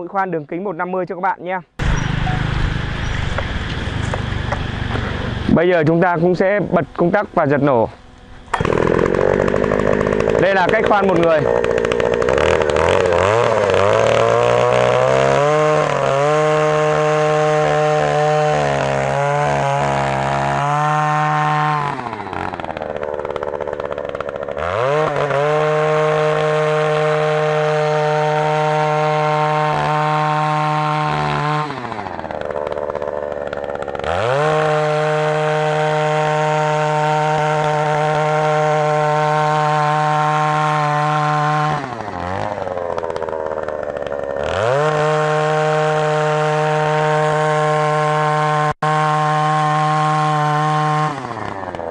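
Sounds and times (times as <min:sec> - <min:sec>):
earth auger engine running: 0:01.8 - 0:51.9.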